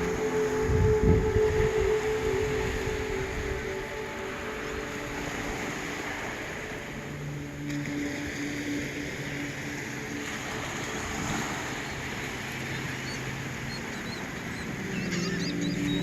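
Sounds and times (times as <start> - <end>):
ocean surf on a beach: 0.0 - 16.0
soft low drone: 0.0 - 16.0
wind: 0.0 - 16.0.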